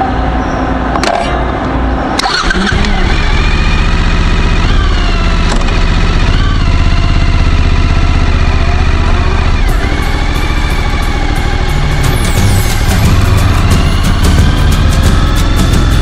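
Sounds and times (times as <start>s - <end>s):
motorcycle engine running: 2.2s - 16.0s.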